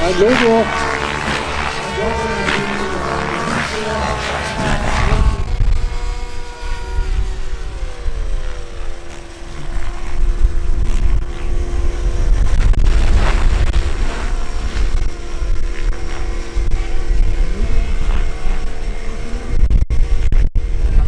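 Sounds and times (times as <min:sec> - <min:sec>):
model helicopter engine whine: 0:00.0 - 0:21.0.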